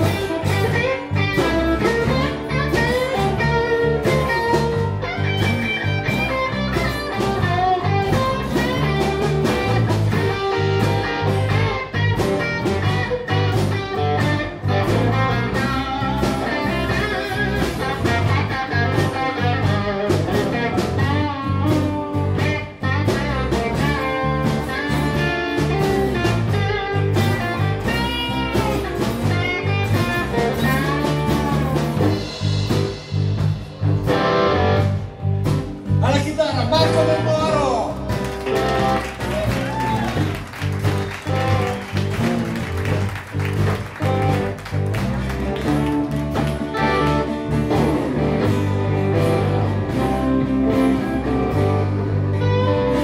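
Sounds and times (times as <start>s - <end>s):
drums: 0.0s - 53.0s
electric bass: 0.0s - 53.0s
lead guitar bending notes: 0.0s - 53.0s.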